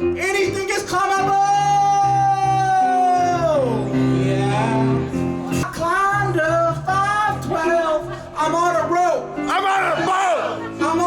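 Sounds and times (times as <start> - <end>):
instrumental chords: 0.0 - 11.0
person singing: 1.6 - 11.0.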